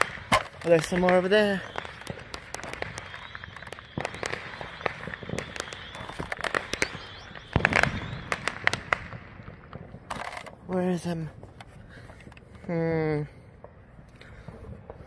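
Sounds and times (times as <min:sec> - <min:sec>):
firecrackers popping and banging: 0:00.0 - 0:15.0.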